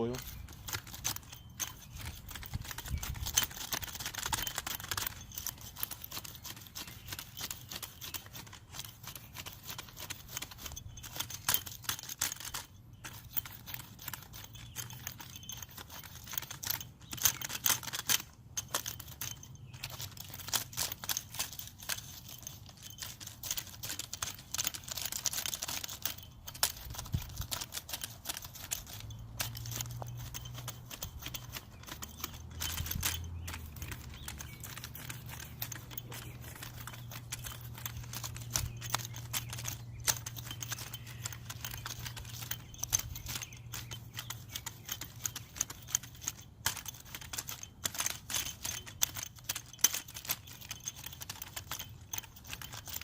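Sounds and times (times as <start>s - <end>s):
garden tool scraping soil: 0.0s - 53.0s.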